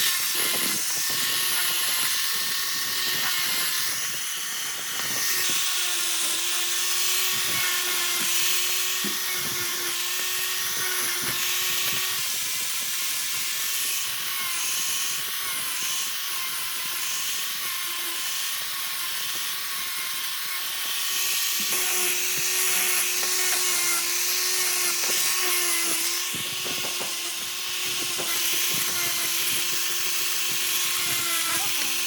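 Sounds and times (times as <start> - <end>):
power tool whining on wood: 0.0 - 32.0.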